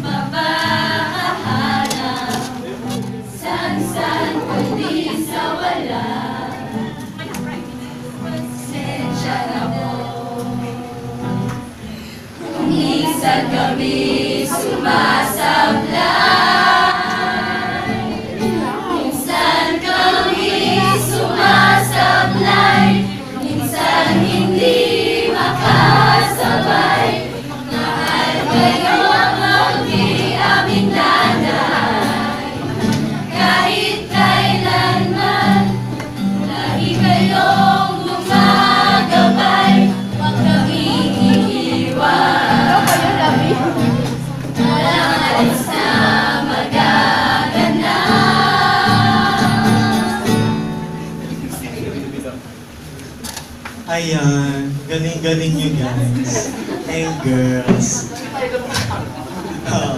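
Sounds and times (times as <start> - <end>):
group singing in chorus: 0.0 - 50.9
guitar accompaniment: 0.0 - 59.9.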